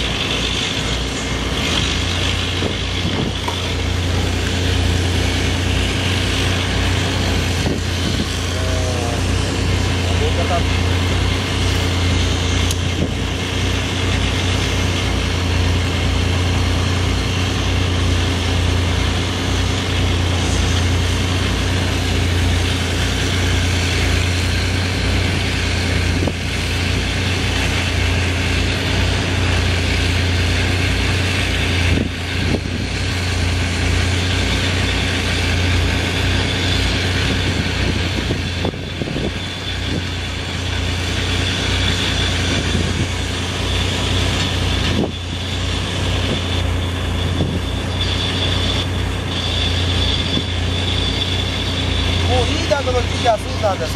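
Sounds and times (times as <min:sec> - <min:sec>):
engine drone with fast throb: 0:00.0 - 0:53.9.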